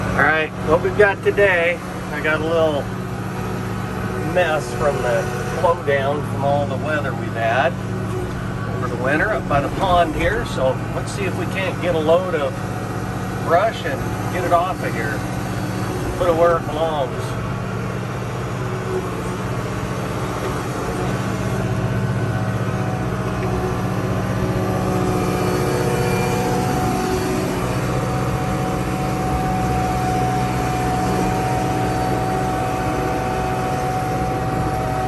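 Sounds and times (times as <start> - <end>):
high whine: 0.0 - 35.0
tractor diesel engine running: 0.0 - 35.0.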